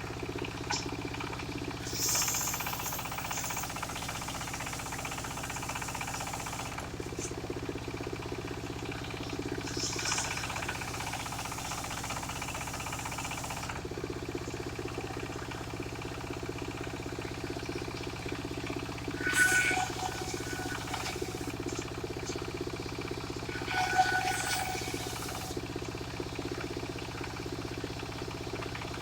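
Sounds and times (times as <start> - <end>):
circular sawmill cutting timber: 0.0 - 29.0.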